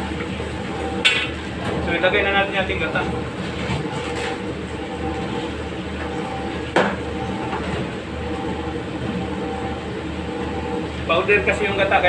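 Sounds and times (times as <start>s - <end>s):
kitchen range humming: 0.0s - 12.0s.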